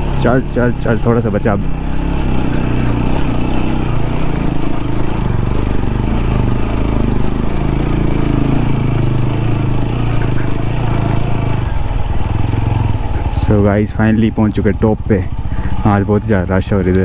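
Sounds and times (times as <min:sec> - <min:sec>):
motorcycle engine under load: 0:00.0 - 0:17.0.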